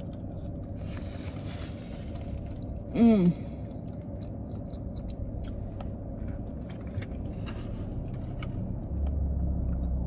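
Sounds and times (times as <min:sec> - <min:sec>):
chewing and small crunches: 0:00.0 - 0:10.0
low vehicle rumble: 0:00.0 - 0:10.0.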